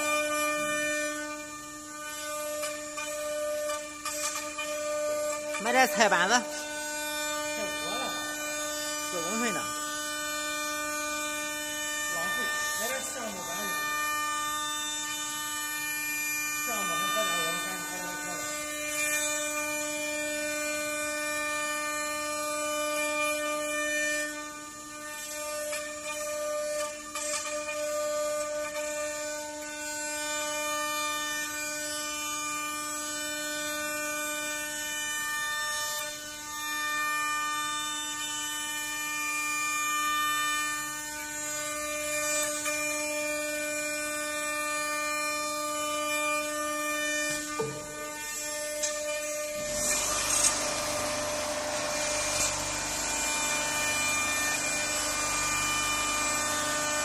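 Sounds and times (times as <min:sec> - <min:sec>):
router bit cutting wood: 0:00.0 - 0:57.0
wood router spindle whining: 0:00.0 - 0:57.0.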